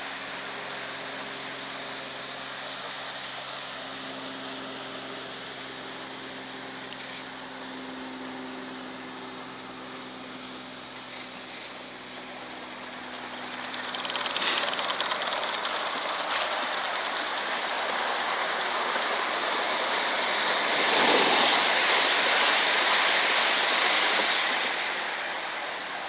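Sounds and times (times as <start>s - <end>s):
model steam locomotive passing: 0.0s - 26.0s.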